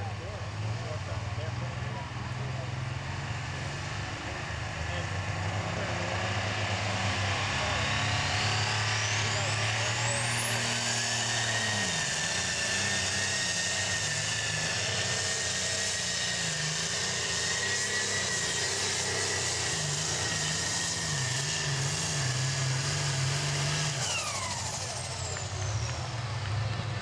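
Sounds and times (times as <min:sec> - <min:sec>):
diesel engine at full throttle: 0:00.0 - 0:27.0
high turbo whine: 0:00.0 - 0:27.0.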